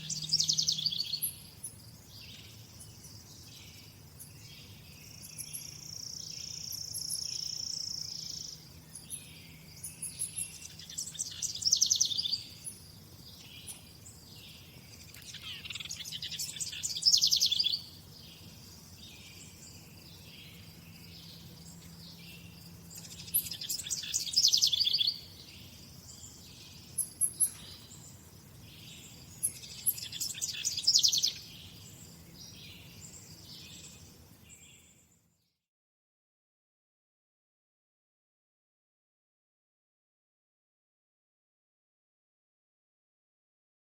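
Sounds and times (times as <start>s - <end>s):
songbird singing: 0.0s - 35.6s.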